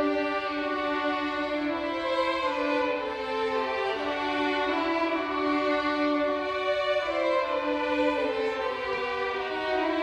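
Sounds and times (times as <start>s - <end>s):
violin ensemble playing sustained notes: 0.0s - 10.0s.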